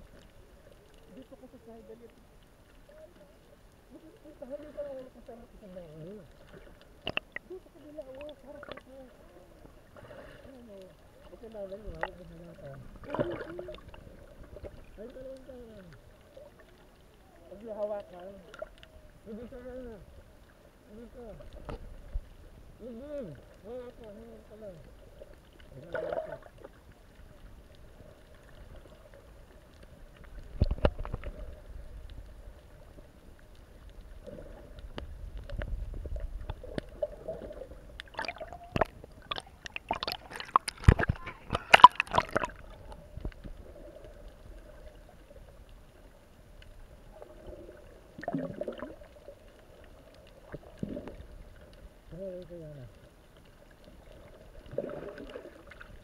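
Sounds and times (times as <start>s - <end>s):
crackling splashes and bubbles: 0.0s - 56.0s
faint steady hum: 0.0s - 56.0s
muffled water sloshing and bubbling: 0.0s - 56.0s.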